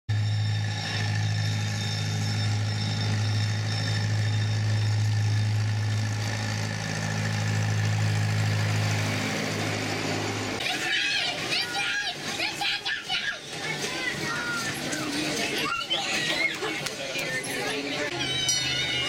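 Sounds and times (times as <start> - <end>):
miniature train engine droning: 0.1 - 19.0.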